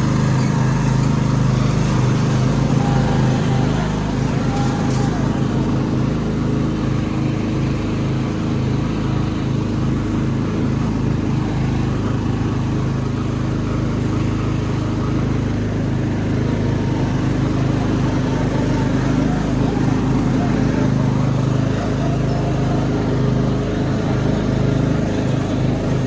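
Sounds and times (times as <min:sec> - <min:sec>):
tractor engine hum: 0:00.0 - 0:26.0.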